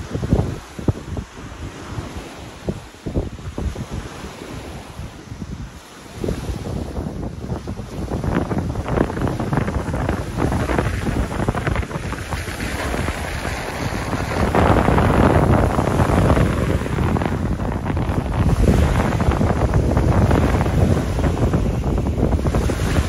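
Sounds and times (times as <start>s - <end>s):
waves washing onto gravel shore: 0.0s - 23.0s
wind buffeting microphone: 0.0s - 23.0s.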